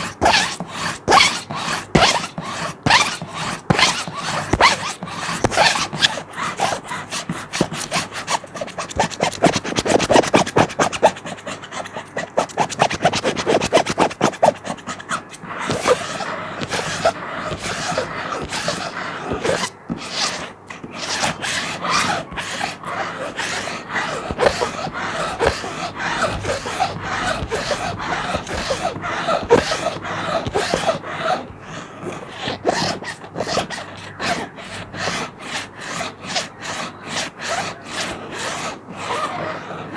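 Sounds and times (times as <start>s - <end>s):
plastic sheet being scratched: 0.0s - 39.9s.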